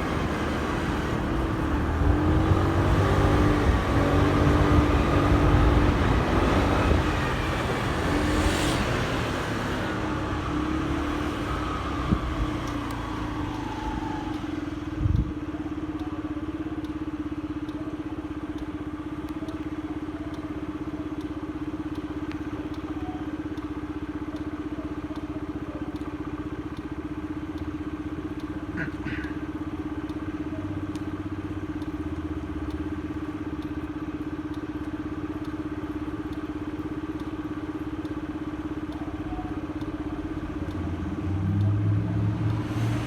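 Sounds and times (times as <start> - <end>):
motorcycle engine: 0.0 - 43.0
road and traffic noise: 0.0 - 43.0.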